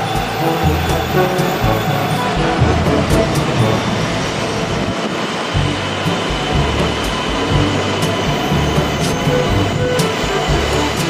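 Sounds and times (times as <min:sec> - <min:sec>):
background music: 0:00.0 - 0:11.0
train running: 0:00.0 - 0:11.0.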